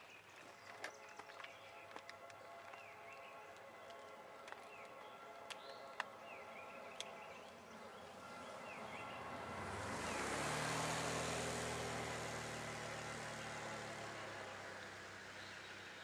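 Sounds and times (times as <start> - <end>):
locomotive engine drone: 0.6 - 16.0.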